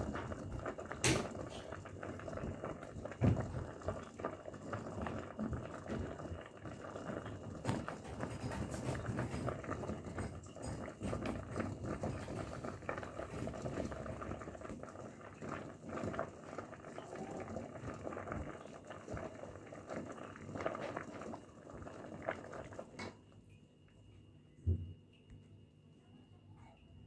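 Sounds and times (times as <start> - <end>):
pot of water boiling: 0.0 - 23.4.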